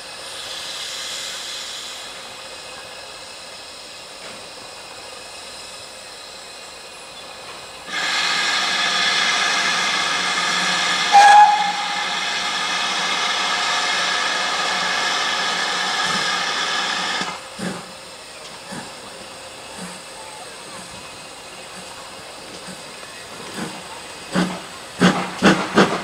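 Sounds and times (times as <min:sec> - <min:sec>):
steam locomotive hissing steam: 0:00.0 - 0:26.0.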